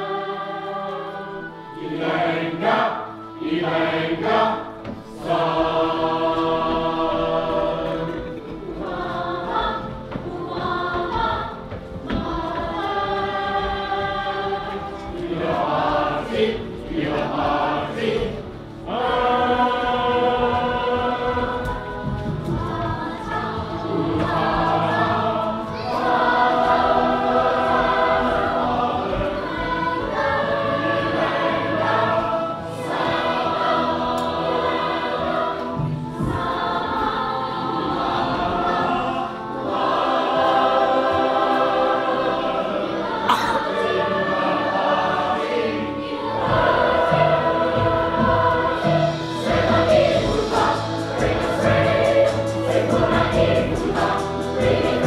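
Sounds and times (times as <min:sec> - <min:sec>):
musical accompaniment: 0:00.0 - 0:55.0
opera chorus singing: 0:00.0 - 0:55.0.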